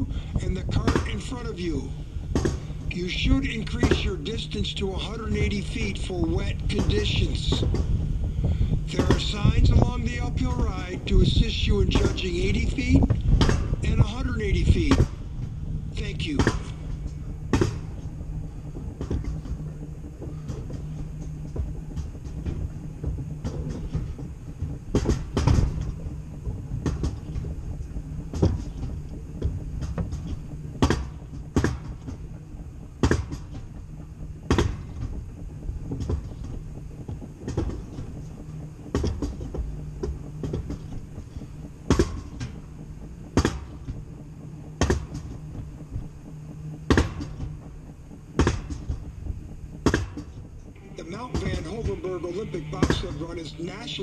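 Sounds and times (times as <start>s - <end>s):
coaster wheels rumbling on rails: 0.0s - 46.3s.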